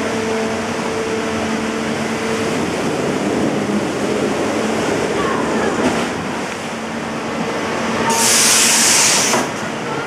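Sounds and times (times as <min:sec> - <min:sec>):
water rushing in flume: 0:00.0 - 0:10.0.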